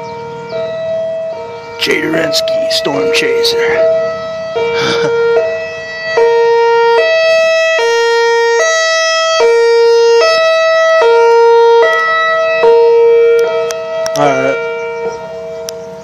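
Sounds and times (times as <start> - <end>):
two-tone electronic warning siren: 0.0 - 16.0.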